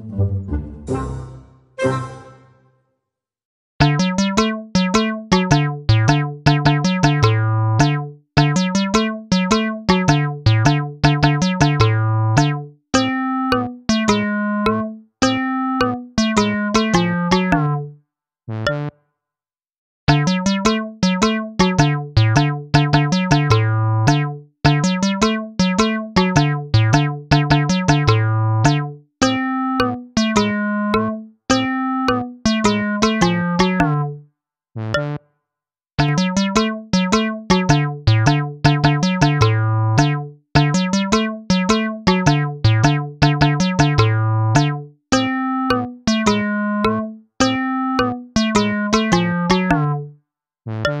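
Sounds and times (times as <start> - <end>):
bouncy synth keyboard tune: 0.0 - 2.8, 3.8 - 19.0, 20.1 - 34.2, 34.8 - 35.3, 36.0 - 51.0.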